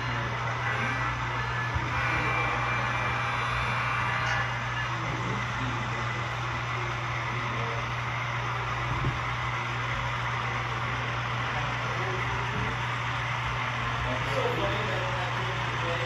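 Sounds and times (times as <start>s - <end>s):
model train humming: 0.0s - 16.0s.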